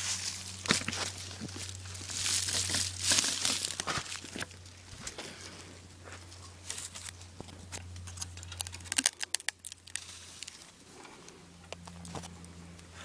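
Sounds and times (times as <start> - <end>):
rustling and crackling: 0.0 - 12.5
steady low hum: 0.0 - 13.0.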